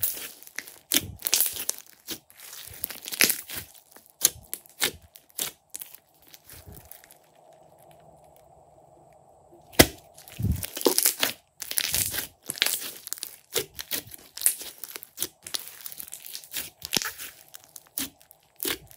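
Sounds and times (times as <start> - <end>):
slime squelching and popping: 0.0 - 8.0, 9.6 - 18.9.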